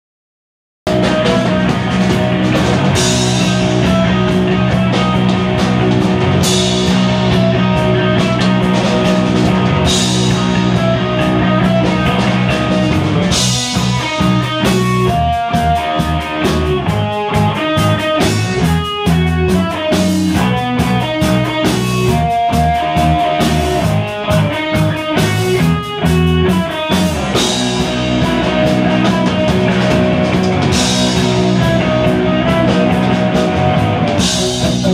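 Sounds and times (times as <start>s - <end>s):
live rock band playing: 0.9s - 34.9s.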